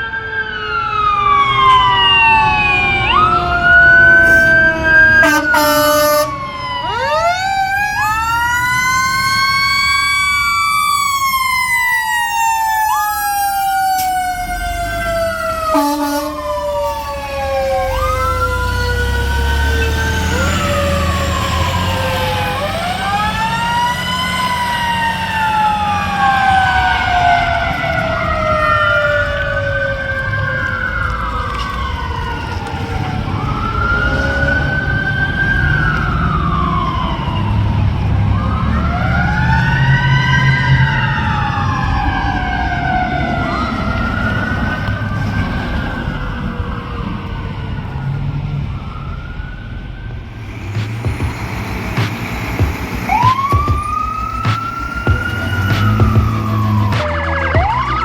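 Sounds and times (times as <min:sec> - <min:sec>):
siren wails: 0:00.0 - 0:58.0
truck engine rumble: 0:00.0 - 0:58.0.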